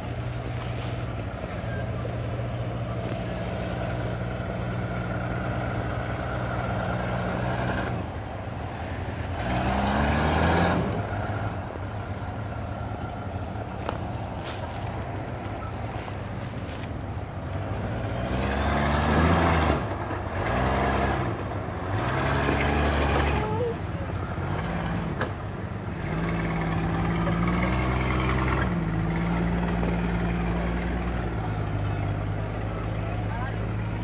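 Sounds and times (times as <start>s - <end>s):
jeep engine revving: 0.0s - 34.0s.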